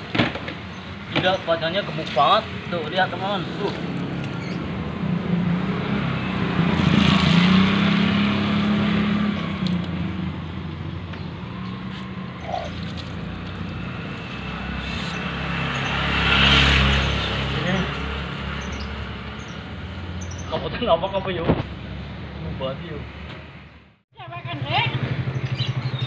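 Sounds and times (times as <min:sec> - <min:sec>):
vehicle passing on wet street: 0:01.7 - 0:23.2.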